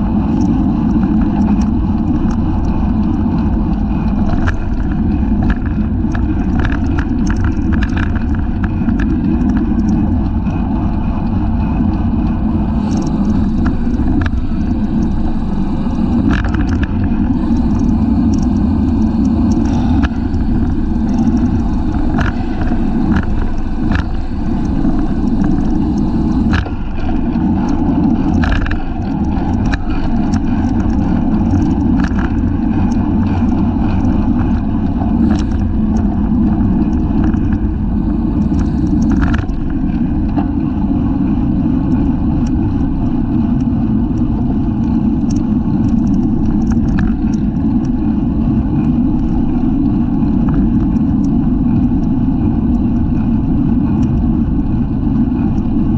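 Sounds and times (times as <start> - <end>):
bike clicks and rattles: 0.0 - 55.9
road noise: 0.0 - 55.9
wind rushing over microphone: 0.0 - 55.9.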